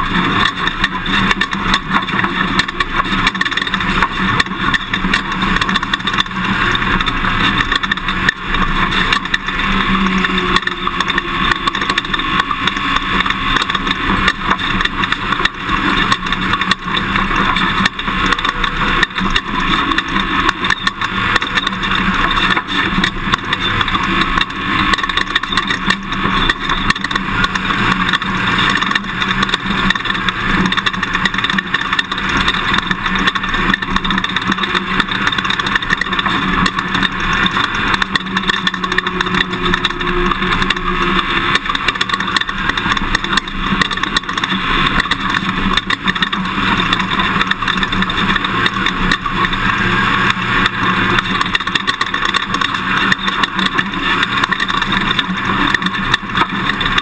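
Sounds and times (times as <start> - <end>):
pickup truck engine and road noise: 0.0 - 57.0
small knocks and rattles: 0.0 - 57.0.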